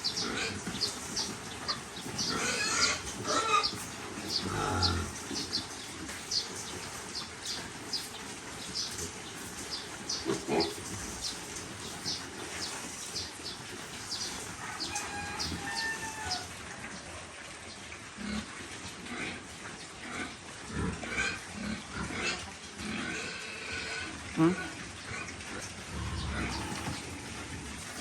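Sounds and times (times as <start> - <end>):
piglets squealing and grunting: 0.0 - 16.6, 20.1 - 28.0.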